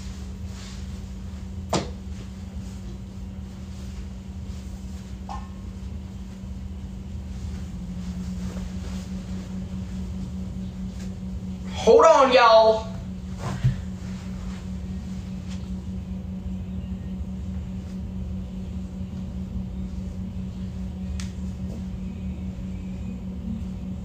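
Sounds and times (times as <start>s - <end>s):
appliance low hum: 0.0s - 24.0s.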